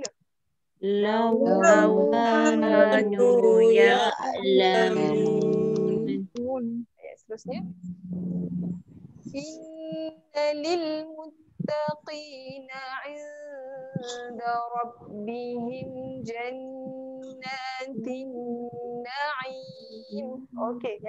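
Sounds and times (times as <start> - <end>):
voices chanting melodically: 0.8 - 6.6, 7.4 - 20.4.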